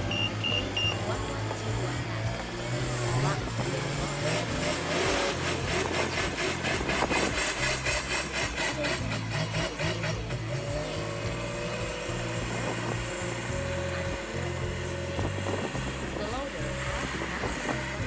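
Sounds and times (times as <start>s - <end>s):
fast rhythmic clatter: 0.0s - 18.0s
wheel loader diesel engine running: 0.0s - 18.0s.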